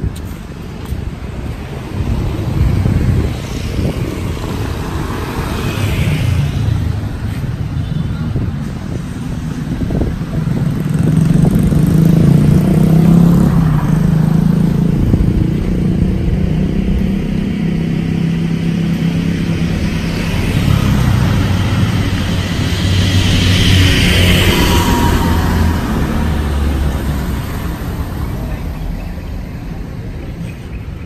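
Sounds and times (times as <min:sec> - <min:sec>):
street traffic: 0:00.0 - 0:31.0.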